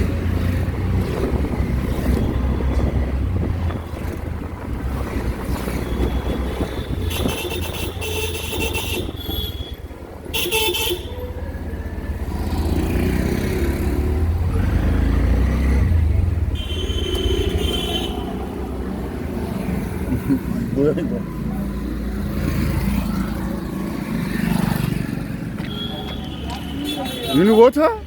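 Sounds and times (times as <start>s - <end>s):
engine and road rumble: 0.0s - 28.0s
street traffic: 0.0s - 28.0s.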